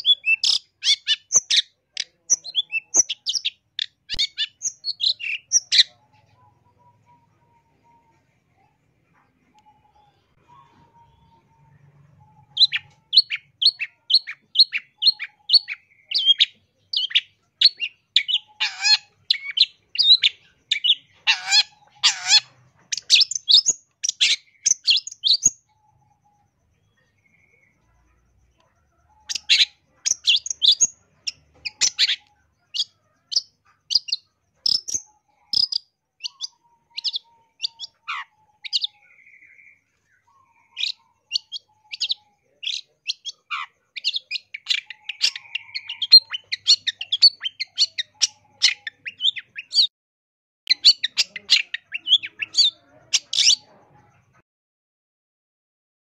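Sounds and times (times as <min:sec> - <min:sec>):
shrike singing chirps and whistles: 0:00.0 - 0:06.0, 0:09.6 - 0:27.9, 0:29.0 - 0:49.9, 0:50.7 - 0:53.8.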